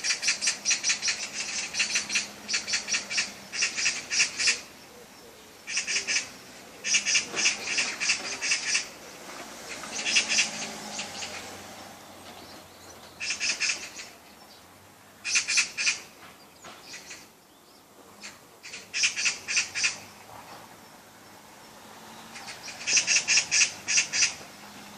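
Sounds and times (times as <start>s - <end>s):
bird chirping rapidly: 0.0s - 4.7s, 5.6s - 8.9s, 9.7s - 20.1s, 22.1s - 24.8s.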